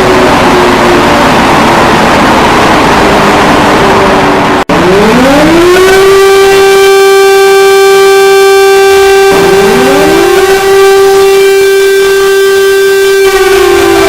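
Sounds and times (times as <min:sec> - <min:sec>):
harsh rushing noise: 0:00.0 - 0:14.0
rising alarm siren tone: 0:00.0 - 0:14.0.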